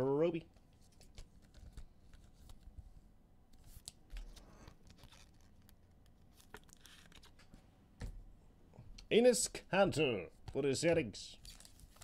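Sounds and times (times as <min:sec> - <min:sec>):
soft rustling of cards: 0:00.2 - 0:08.1, 0:10.2 - 0:12.0.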